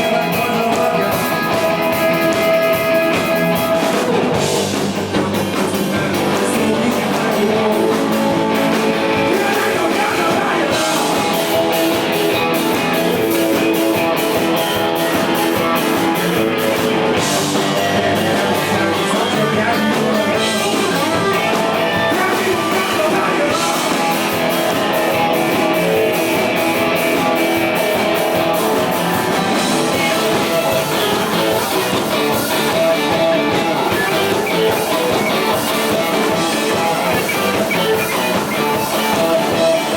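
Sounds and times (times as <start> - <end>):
person singing: 0.0 - 4.7, 5.4 - 39.9
drum kit: 0.0 - 39.9
electric guitars: 0.0 - 39.9.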